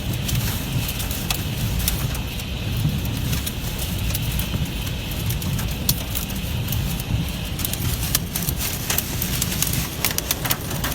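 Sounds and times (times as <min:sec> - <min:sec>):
hailstones striking hard surfaces: 0:00.0 - 0:10.9
heavy rain hiss: 0:00.0 - 0:10.9.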